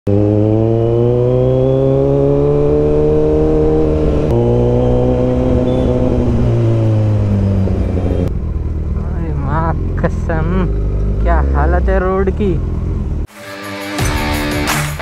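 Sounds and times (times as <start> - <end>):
motorcycle engine at high revs: 0.1 - 13.3.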